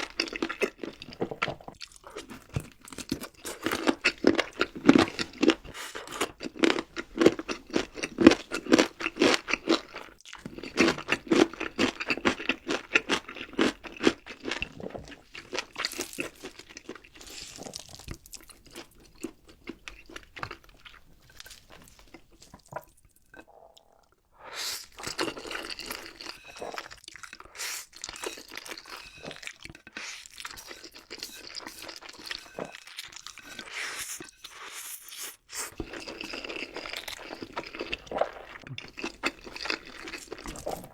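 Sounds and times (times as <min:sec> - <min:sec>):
person crunching and chewing food: 0:00.0 - 0:40.9.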